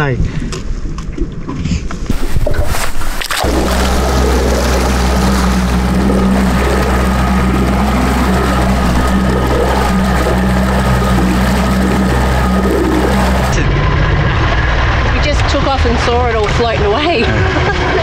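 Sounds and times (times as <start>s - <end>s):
outboard motor droning: 2.1s - 18.0s
rushing noise: 2.1s - 18.0s.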